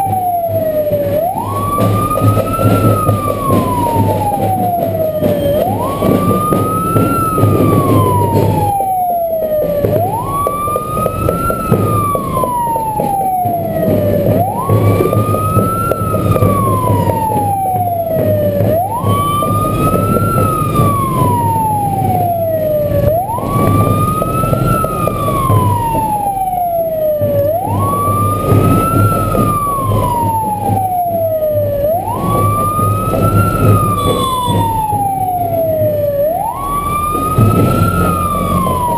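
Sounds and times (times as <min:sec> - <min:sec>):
engine and road noise: 0:00.0 - 0:38.9
vehicle siren wailing: 0:00.0 - 0:38.9.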